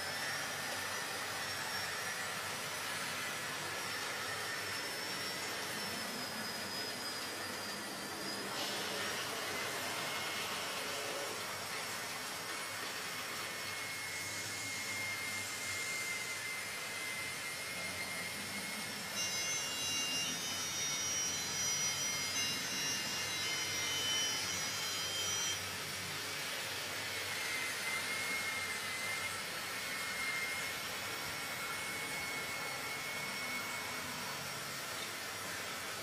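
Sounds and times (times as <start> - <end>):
model train motors whining: 0.0 - 36.0.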